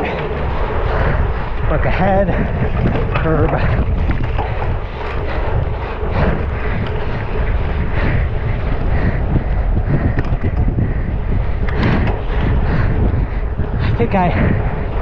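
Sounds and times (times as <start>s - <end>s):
bike rumbling over rough ground: 0.0s - 15.0s
wind on microphone: 0.0s - 15.0s.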